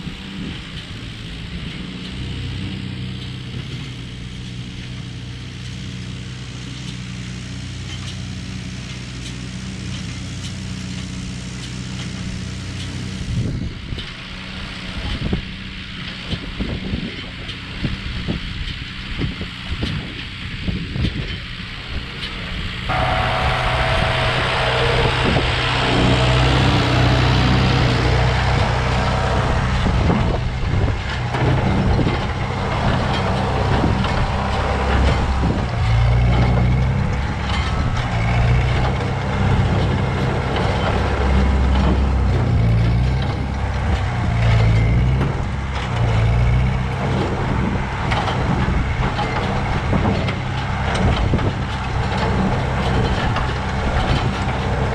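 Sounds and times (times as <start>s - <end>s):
tractor engine running under load: 0.0s - 54.9s.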